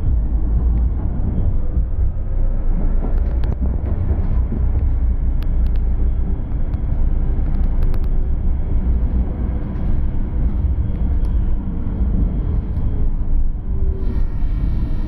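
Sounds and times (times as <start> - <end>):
high whine: 0.0 - 15.0
tram wheels rumbling on rails: 0.0 - 15.0.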